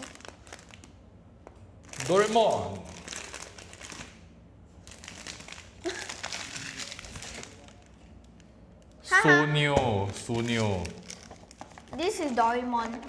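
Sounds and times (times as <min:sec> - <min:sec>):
plastic wrapper crinkling: 0:00.0 - 0:01.0, 0:01.8 - 0:09.0, 0:09.9 - 0:13.0.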